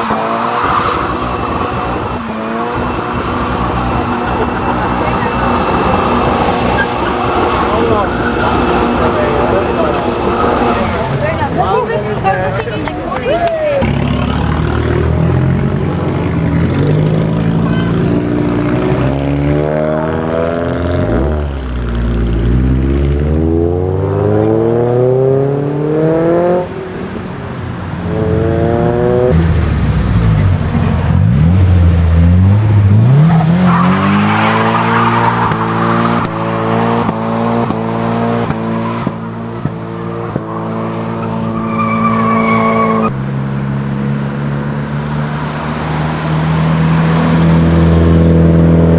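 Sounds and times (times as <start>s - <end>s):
car engines revving hard: 0.0s - 48.9s.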